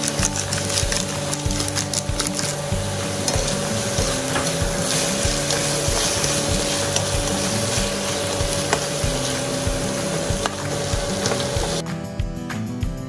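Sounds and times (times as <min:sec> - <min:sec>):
spatula scraping and tossing: 0:00.0 - 0:11.8
vegetables sizzling in a pan: 0:00.0 - 0:11.8.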